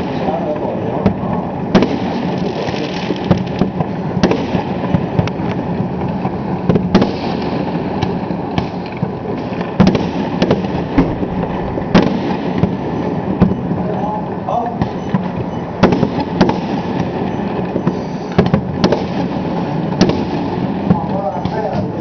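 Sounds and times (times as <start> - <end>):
fireworks crackling: 0.0 - 14.5, 15.2 - 22.0
firework bangs: 0.0 - 22.0.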